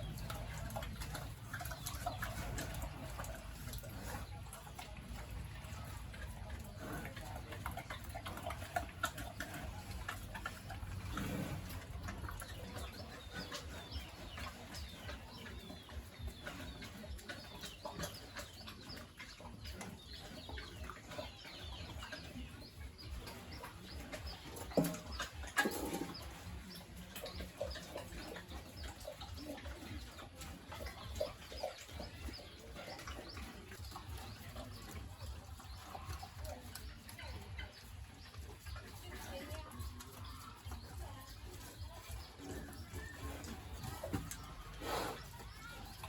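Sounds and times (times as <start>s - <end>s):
chickens clucking: 0.0s - 46.0s
small birds chirping: 0.0s - 46.0s.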